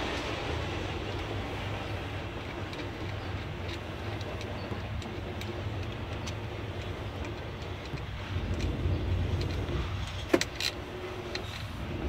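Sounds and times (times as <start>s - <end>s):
light clicks and taps: 1.1s - 11.7s.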